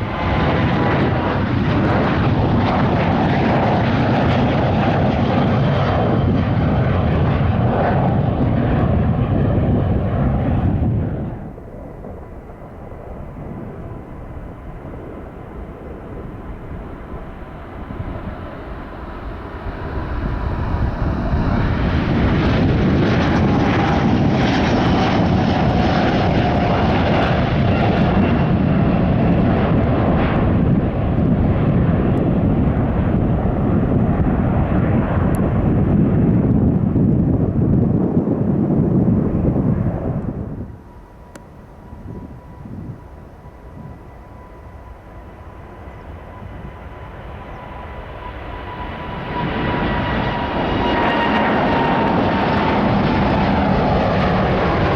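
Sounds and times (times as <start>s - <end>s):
jet engine rumble: 0.0s - 54.9s
jet engine whine: 0.0s - 54.9s.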